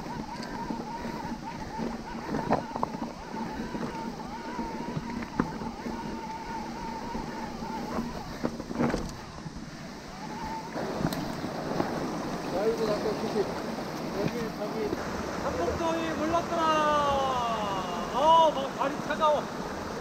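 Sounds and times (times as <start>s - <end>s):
bike rattling on rough trail: 0.0s - 20.0s
steady whining tone: 0.0s - 20.0s
wind noise: 0.0s - 20.0s.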